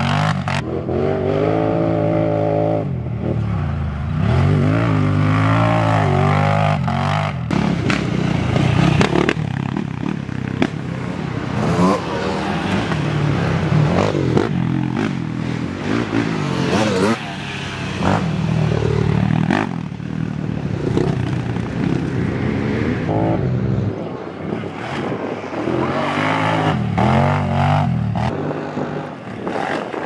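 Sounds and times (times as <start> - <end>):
atv engines revving: 0.0 - 30.0.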